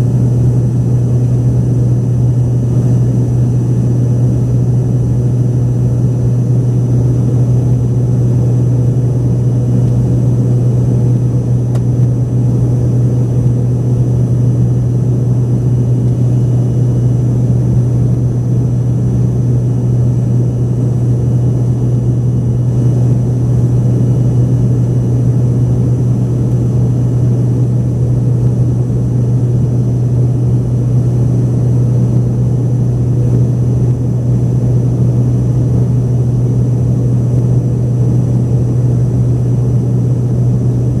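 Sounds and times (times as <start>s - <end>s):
jet engines droning in cabin: 0.0s - 41.0s.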